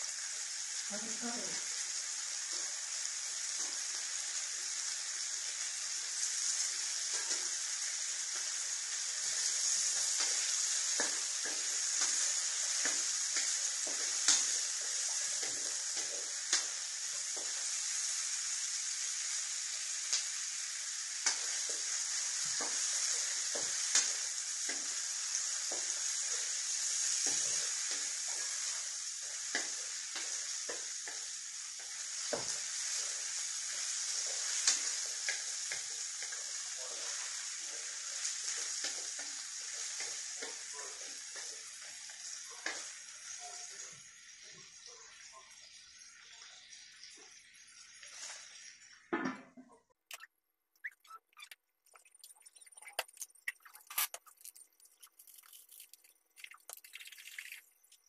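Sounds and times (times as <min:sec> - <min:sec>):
beef sizzling in hot oil: 0:00.0 - 0:49.2, 0:50.1 - 0:58.0.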